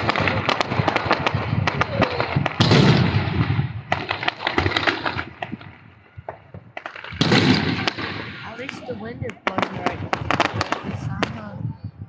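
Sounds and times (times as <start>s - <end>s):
fireworks crackling pops: 0.0s - 11.7s
firework blast: 0.0s - 11.8s.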